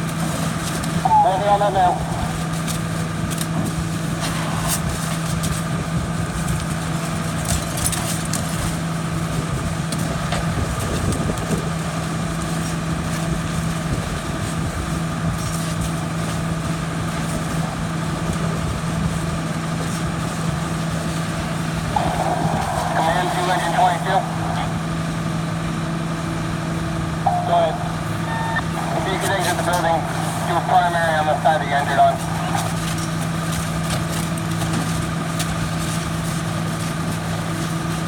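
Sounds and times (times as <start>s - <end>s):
fire engine running: 0.0s - 38.0s.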